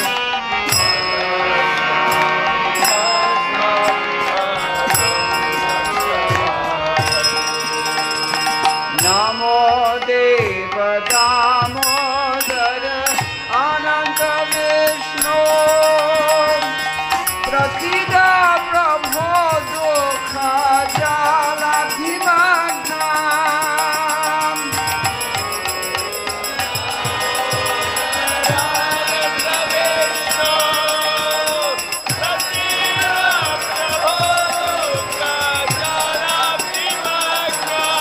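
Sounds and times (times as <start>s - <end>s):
small jingling cymbals: 0.0s - 10.2s, 11.1s - 38.0s
devotional singing with vibrato: 0.0s - 38.0s.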